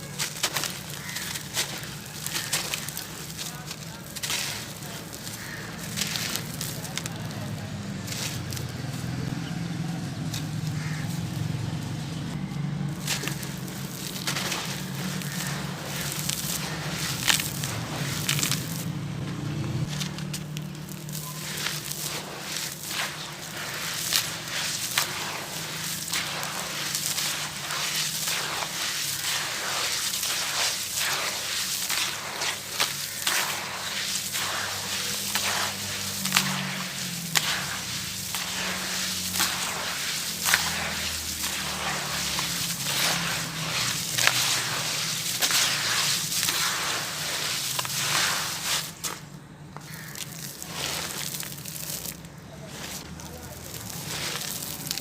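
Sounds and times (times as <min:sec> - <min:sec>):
chalky pieces crumbling: 0:00.0 - 0:09.5, 0:12.9 - 0:18.9, 0:19.7 - 0:55.0
gritty hearts crunching by hand: 0:00.0 - 0:55.0.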